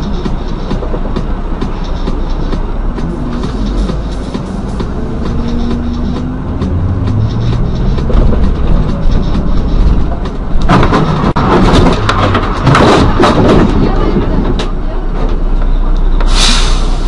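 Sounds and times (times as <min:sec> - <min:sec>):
vehicle rumbling in motion: 0:00.0 - 0:17.0.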